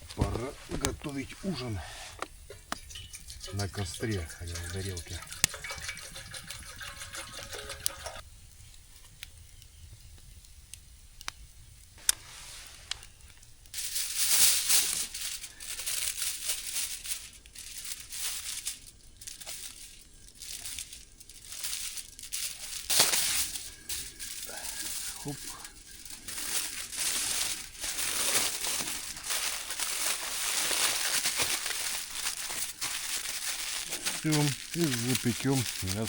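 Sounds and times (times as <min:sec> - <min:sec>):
food wrapping crinkling and tearing: 0:00.0 - 0:08.2, 0:12.8 - 0:36.0.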